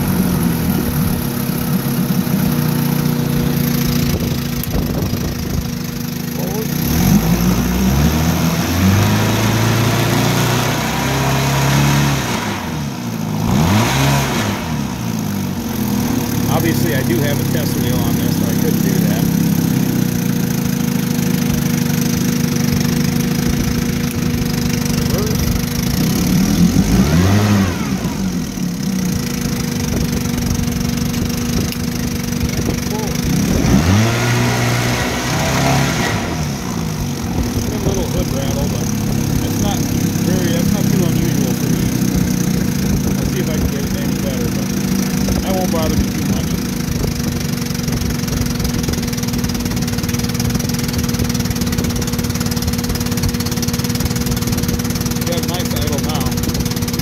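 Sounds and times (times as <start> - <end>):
outboard motor running: 0.0 - 57.0
propeller churning water: 0.0 - 57.0.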